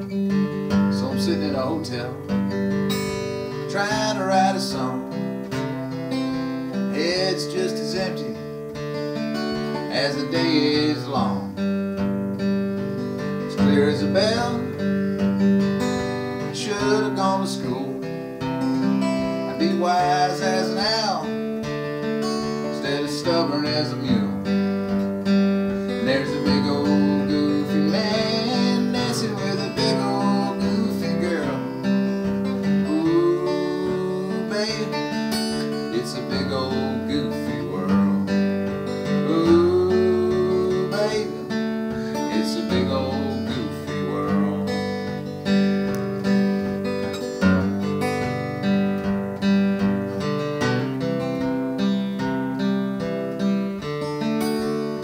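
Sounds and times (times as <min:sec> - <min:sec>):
acoustic guitar strummed and picked: 0:00.0 - 0:55.0.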